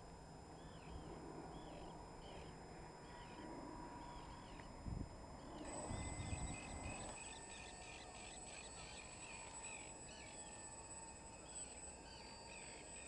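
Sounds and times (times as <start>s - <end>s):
faint electric motor whine: 0.0s - 13.0s.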